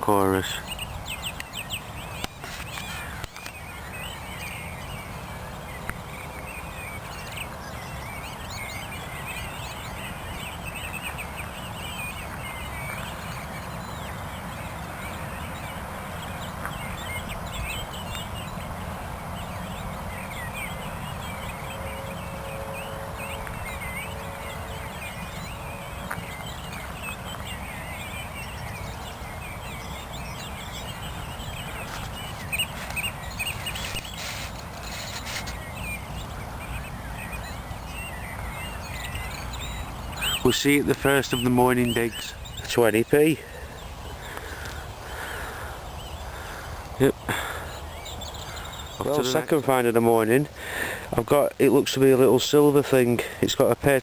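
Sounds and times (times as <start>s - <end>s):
many birds singing: 0.0s - 54.0s.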